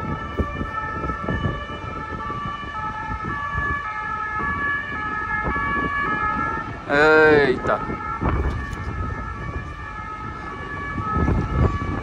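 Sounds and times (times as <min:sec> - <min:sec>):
street noise rumble: 0:00.0 - 0:12.0
two-tone siren: 0:00.0 - 0:12.0.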